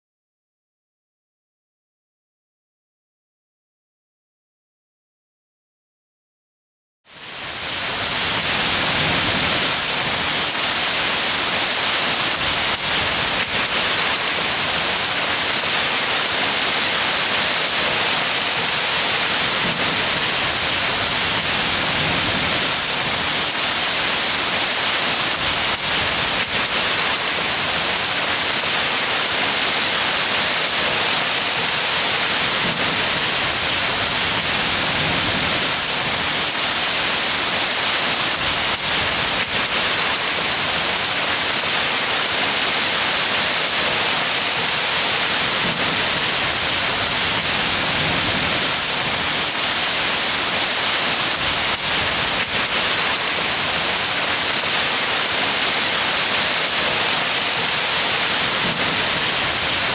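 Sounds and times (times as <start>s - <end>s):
hail and rain pelting down: 7.4s - 59.9s.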